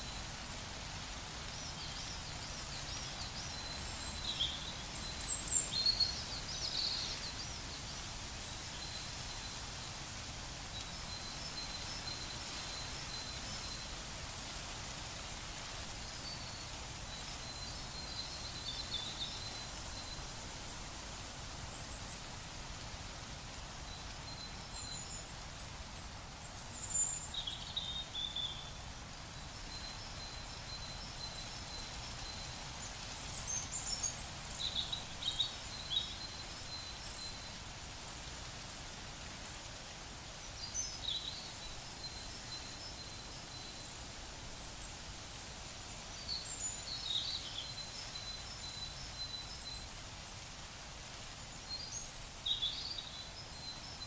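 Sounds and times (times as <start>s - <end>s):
background noise: 0.0s - 54.0s.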